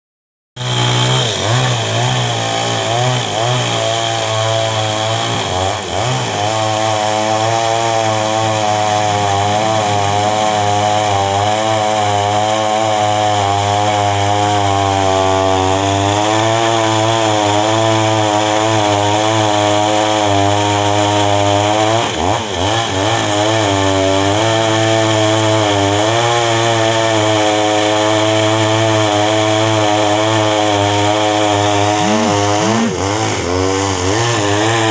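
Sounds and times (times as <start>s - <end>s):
chainsaw engine revving: 0.6s - 34.9s.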